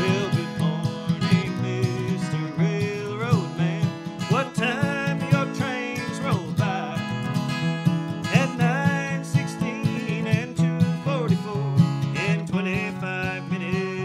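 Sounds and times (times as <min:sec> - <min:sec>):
man singing: 0:00.0 - 0:07.4, 0:08.2 - 0:14.0
acoustic guitar strummed and picked: 0:00.0 - 0:14.0.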